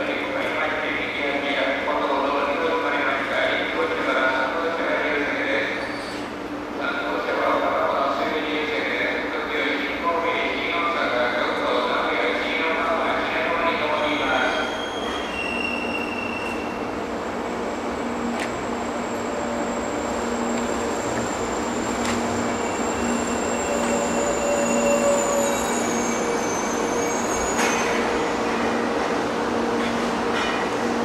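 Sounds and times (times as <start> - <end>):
train rumbling on track: 0.0 - 31.0.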